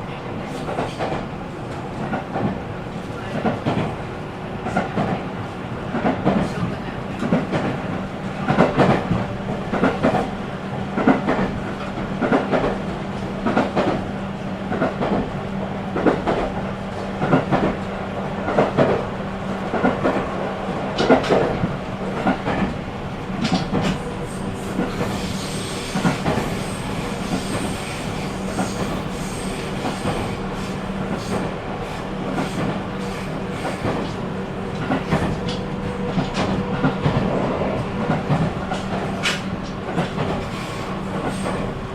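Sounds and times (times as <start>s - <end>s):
steady train hum: 0.0s - 41.9s
train wheels clickety-clack: 0.4s - 4.0s, 4.6s - 41.9s.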